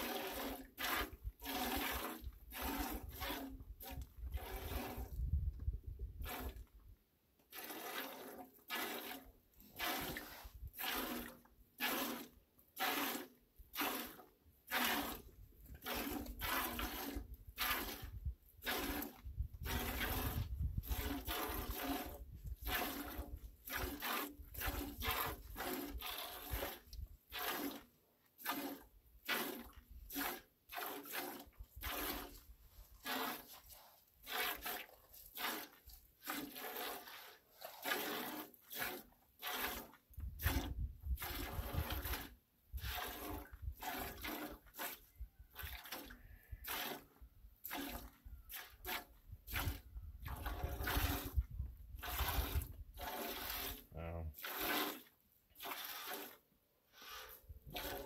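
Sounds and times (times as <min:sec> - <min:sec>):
milk squirting into a metal pot: 0:00.0 - 0:58.0.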